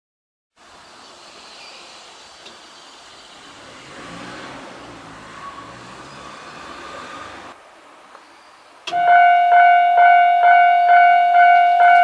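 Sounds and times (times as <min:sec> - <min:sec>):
outdoor background noise: 0:00.5 - 0:12.0.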